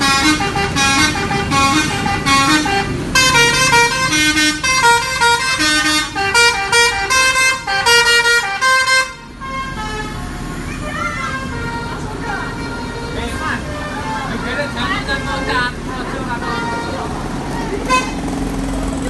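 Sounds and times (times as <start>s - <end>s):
multi-tone musical bus horn: 0.0s - 18.3s.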